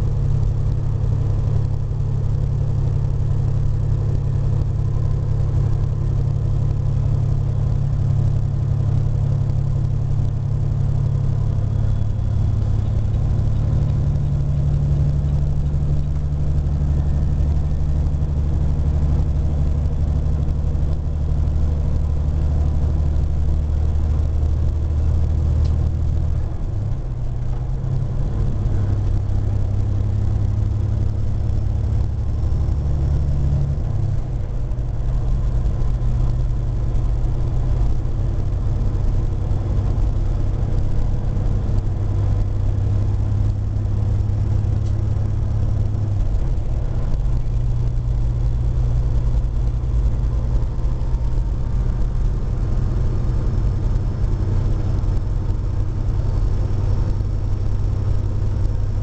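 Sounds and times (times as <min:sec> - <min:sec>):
road noise: 0:00.0 - 0:59.0
vehicle engine drone: 0:00.0 - 0:59.0.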